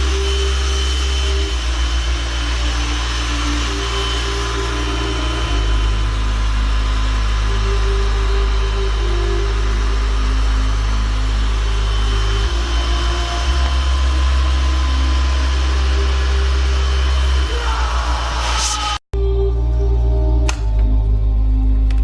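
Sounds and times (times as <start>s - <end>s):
stick vacuum cleaner running: 0.0s - 19.0s.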